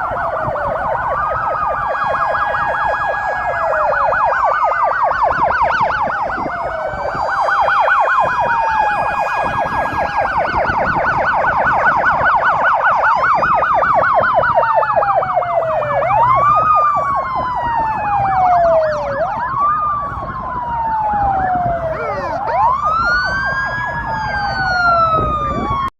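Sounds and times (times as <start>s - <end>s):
wailing sirens: 0.0s - 25.9s
warbling siren: 0.0s - 25.9s.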